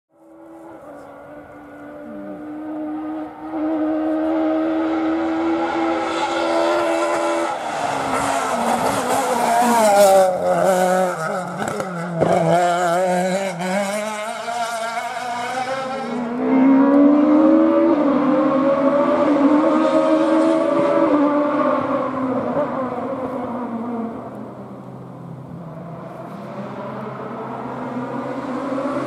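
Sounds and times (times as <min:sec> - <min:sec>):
rally car engine revving: 0:00.3 - 0:24.3, 0:25.7 - 0:29.0.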